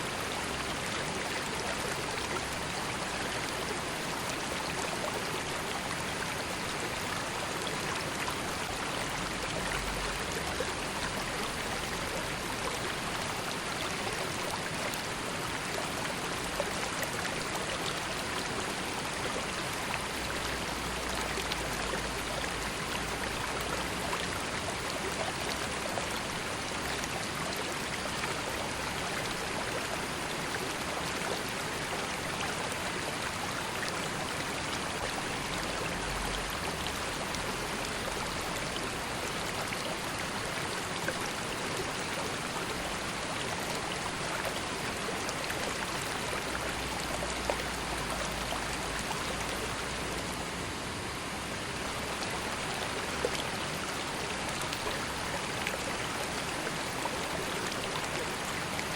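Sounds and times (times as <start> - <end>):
river flowing: 0.0 - 58.9
small water splashes and trickles: 0.0 - 58.9.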